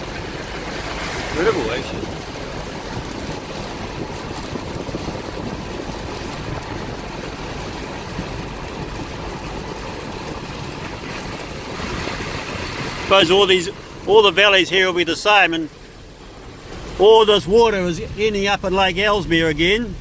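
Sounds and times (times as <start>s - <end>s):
vehicle engine low sound: 0.0s - 20.0s
water rushing against wheels: 0.0s - 20.0s.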